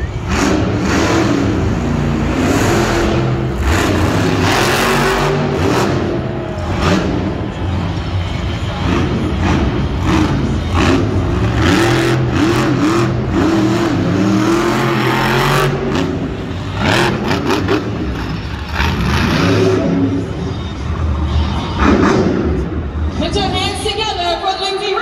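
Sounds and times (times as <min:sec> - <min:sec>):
truck engine revving: 0:00.0 - 0:23.3.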